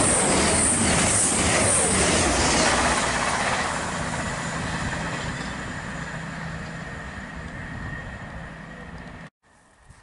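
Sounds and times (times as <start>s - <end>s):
train rumble receding: 0.0s - 9.3s.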